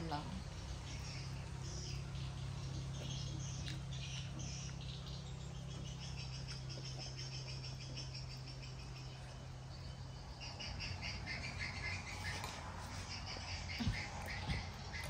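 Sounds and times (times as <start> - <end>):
steady low hum: 0.0 - 15.0
small animal chirping trills: 0.3 - 15.0.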